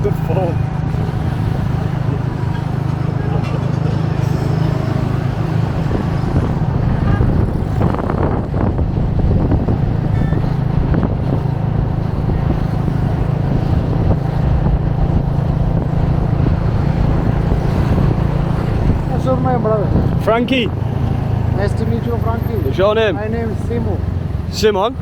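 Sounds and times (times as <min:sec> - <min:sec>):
moped engine hum: 0:00.0 - 0:25.0
wind and road noise: 0:00.0 - 0:25.0.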